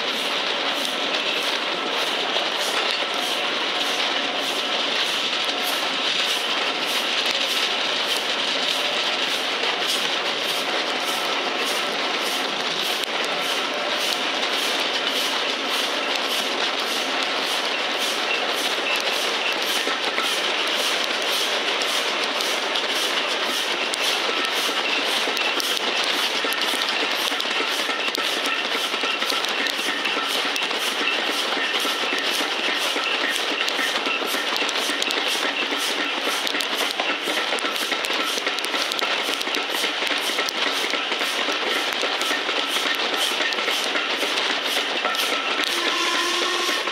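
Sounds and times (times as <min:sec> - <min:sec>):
train wheels on rail: 0:00.0 - 0:46.9.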